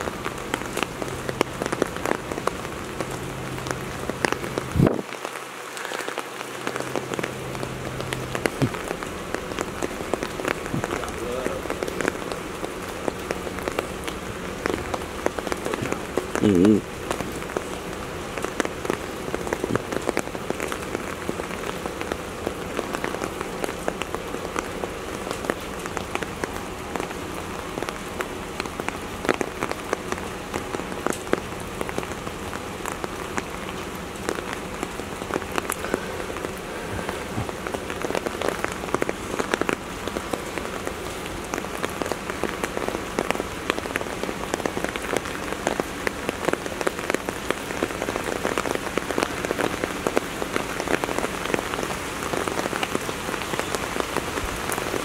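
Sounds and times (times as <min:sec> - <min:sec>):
raindrops ticking close by: 0:00.0 - 0:55.0
steady rain falling: 0:00.0 - 0:55.0.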